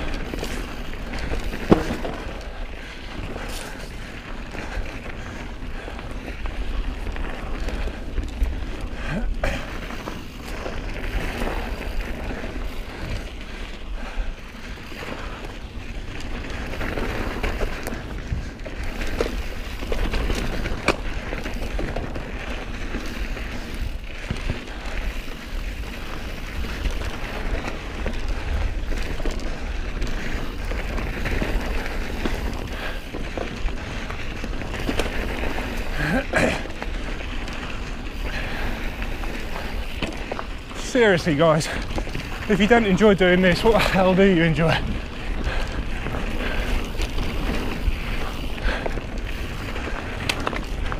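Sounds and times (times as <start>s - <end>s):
bike rattling: 0.0s - 50.9s
tyre noise: 0.0s - 50.9s.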